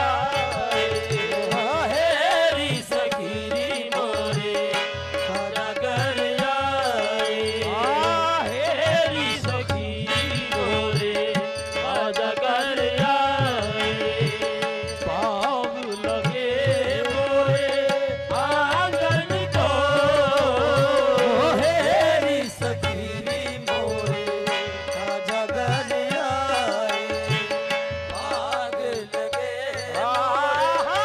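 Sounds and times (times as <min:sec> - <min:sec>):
harmonium chords: 0:00.0 - 0:31.0
tabla drums: 0:00.0 - 0:31.0.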